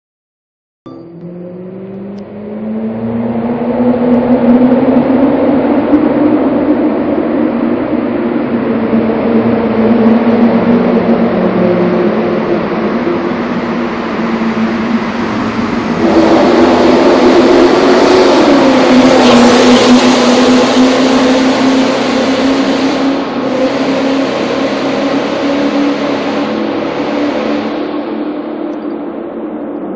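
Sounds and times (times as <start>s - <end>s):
car exhaust echoing in tunnel: 0.9s - 29.9s.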